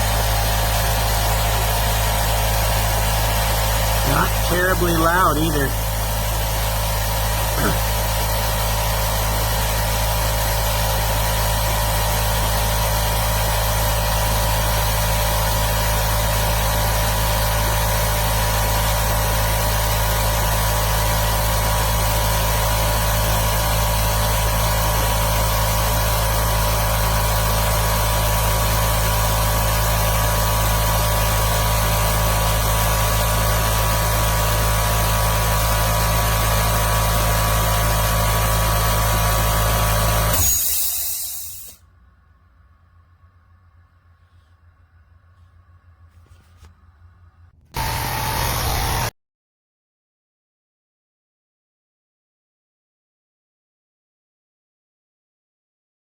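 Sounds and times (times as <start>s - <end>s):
air compressor humming: 0.0s - 49.1s.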